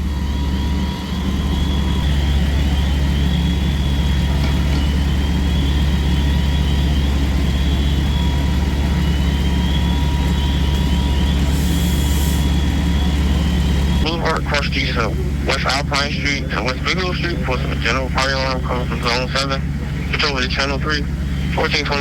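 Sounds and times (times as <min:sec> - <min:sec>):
heavy vehicle engines droning: 0:00.0 - 0:22.0.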